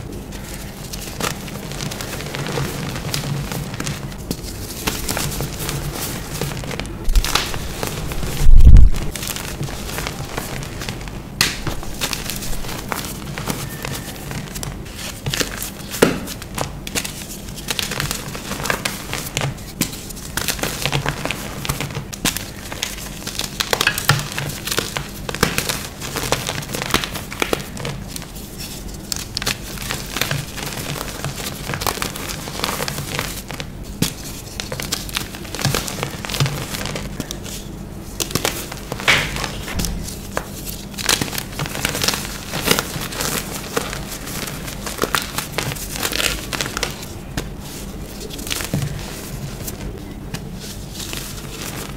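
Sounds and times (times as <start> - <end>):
chalk crackling and crunching: 0.0 - 51.9.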